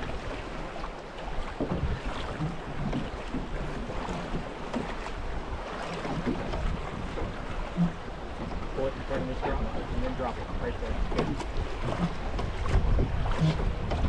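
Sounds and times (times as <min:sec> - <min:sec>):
river water slapping boat hull: 0:00.0 - 0:14.0
wind on microphone: 0:01.6 - 0:14.0.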